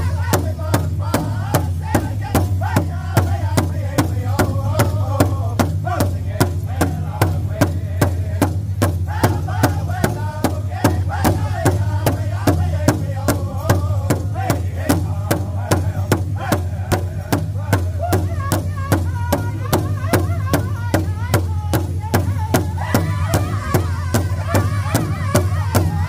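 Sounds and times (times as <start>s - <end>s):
group singing in high voices: 0.0s - 26.0s
large drum steady beat: 0.0s - 26.0s.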